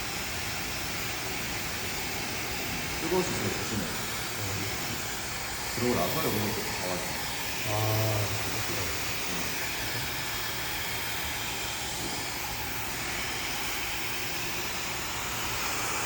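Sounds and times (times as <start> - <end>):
hair dryer blowing air: 0.0 - 16.0.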